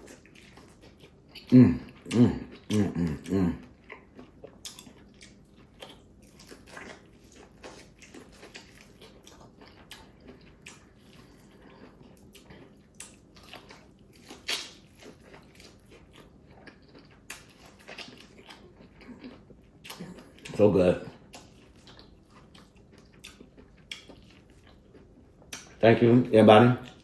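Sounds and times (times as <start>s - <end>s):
chewing and biting food: 0.0s - 25.8s, 26.8s - 27.0s.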